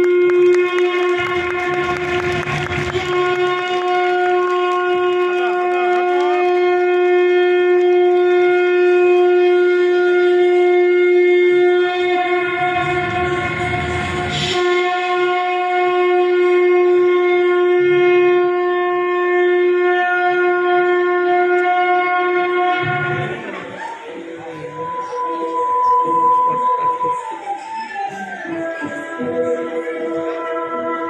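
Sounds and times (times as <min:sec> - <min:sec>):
conch shell blown: 0:00.0 - 0:31.0.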